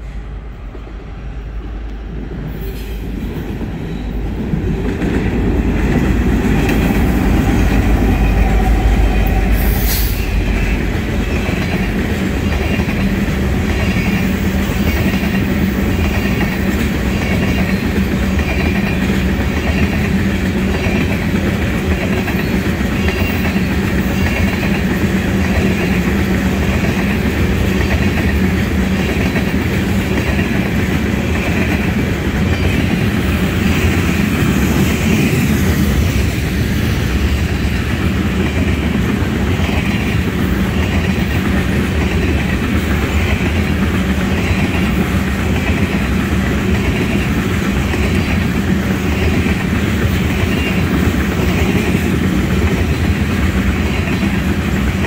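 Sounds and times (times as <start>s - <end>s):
diesel locomotives rumbling: 0.0s - 55.0s.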